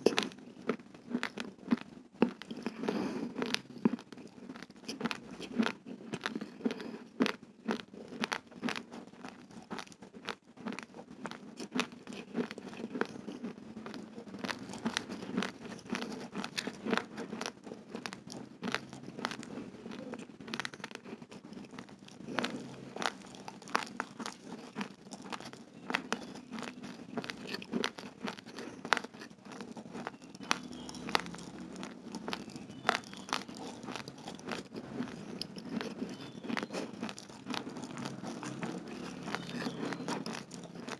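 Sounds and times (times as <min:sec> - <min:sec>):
chewing raw rice crunches: 0:00.0 - 0:40.9.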